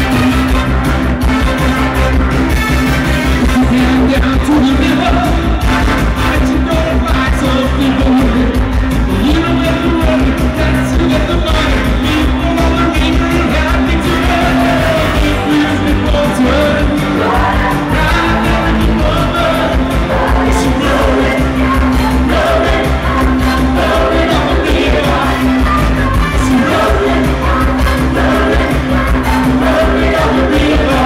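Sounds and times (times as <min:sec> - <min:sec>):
live pop song through speakers: 0:00.0 - 0:31.0
man singing: 0:03.3 - 0:31.0.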